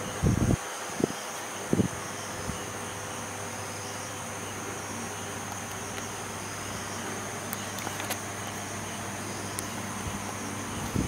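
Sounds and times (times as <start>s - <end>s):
night insects trilling: 0.0s - 11.0s.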